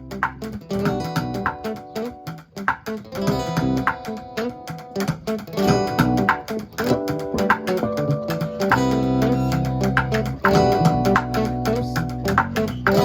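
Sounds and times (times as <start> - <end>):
sharp rhythmic strikes: 0.0 - 13.0
strummed guitar: 0.0 - 13.0
live band playing: 0.1 - 13.0.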